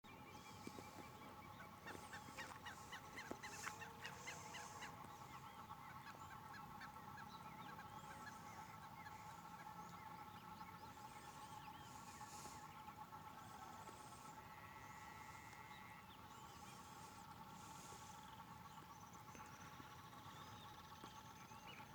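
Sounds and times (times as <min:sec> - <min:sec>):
frogs calling and trilling: 0:00.1 - 0:21.0.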